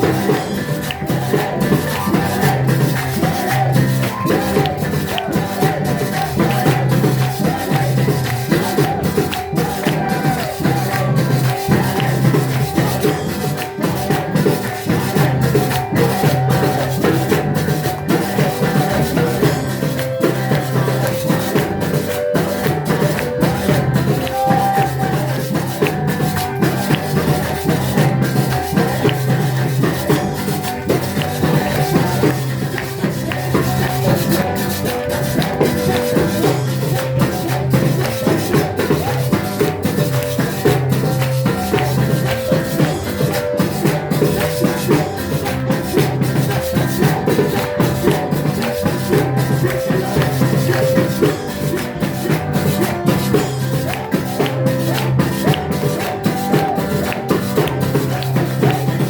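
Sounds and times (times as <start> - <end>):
drums: 0.0 - 59.0
maracas shaking: 0.0 - 59.0
sustained instrumental tones: 0.0 - 59.0.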